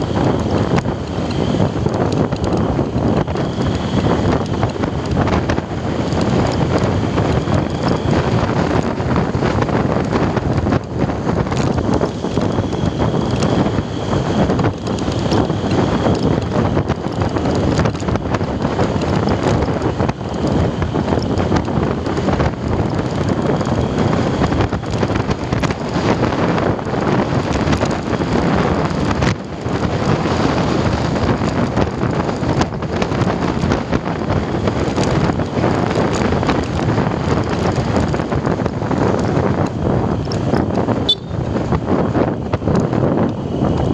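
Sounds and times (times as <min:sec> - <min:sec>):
motorcycle running: 0:00.0 - 0:43.9
wind rushing over microphone: 0:00.0 - 0:43.9.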